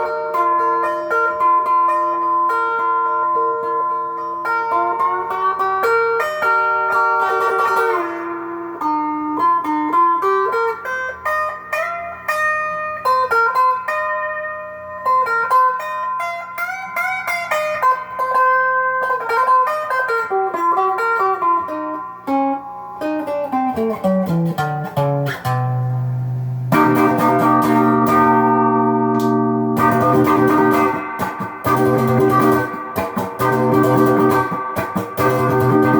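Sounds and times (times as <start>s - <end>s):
electric guitar lead lines: 0.0s - 35.9s.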